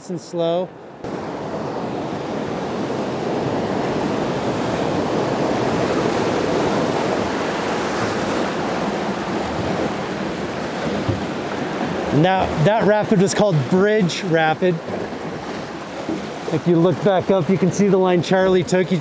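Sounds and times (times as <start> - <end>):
rushing whitewater: 0.0 - 19.0.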